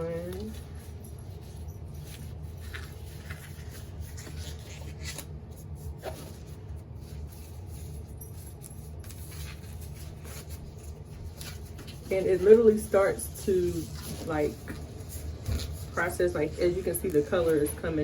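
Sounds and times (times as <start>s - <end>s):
gloves rustling: 0.0s - 18.0s
steady low hum: 0.0s - 18.0s.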